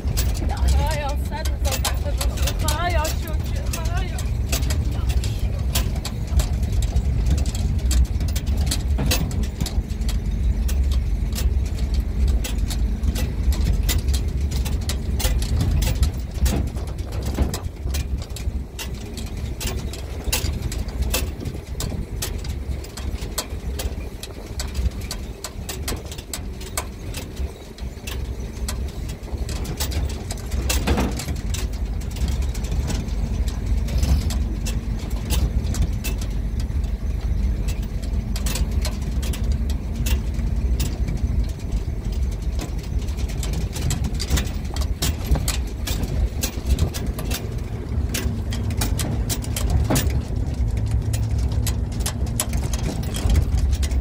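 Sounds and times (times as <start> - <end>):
metal truck bed knocking and rattling: 0.0 - 54.0
truck engine and road rumble: 0.0 - 54.0.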